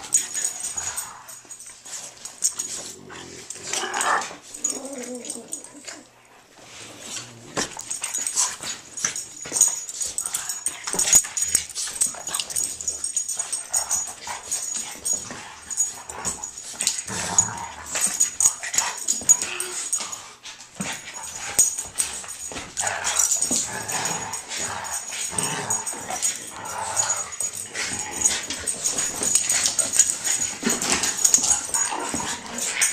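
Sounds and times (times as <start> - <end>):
dogs play-fighting: 0.0 - 32.9.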